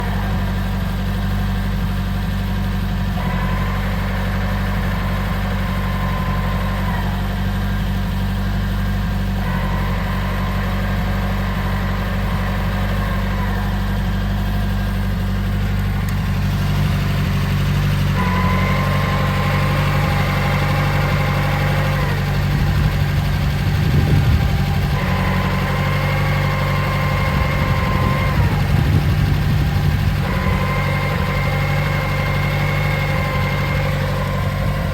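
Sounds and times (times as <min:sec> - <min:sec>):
car engine idling: 0:00.0 - 0:34.9
transmission whine: 0:00.0 - 0:34.9.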